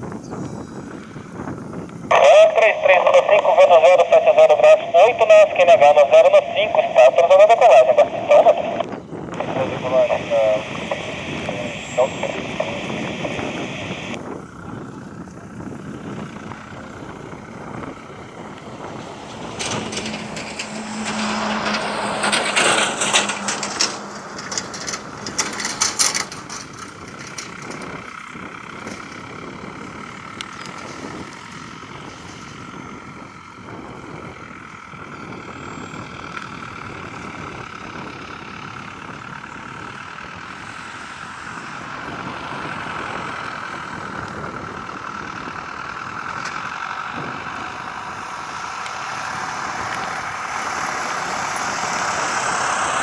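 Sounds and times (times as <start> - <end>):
wind buffeting microphone: 0.0 - 6.4, 7.0 - 53.0
aircraft engine whine: 0.0 - 53.0.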